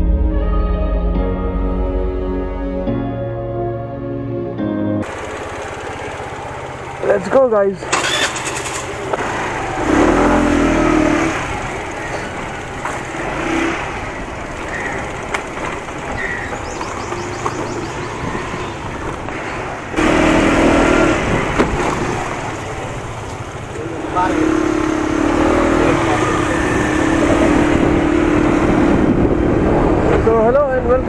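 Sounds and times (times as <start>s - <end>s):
motorcycle engine running: 5.0s - 31.0s.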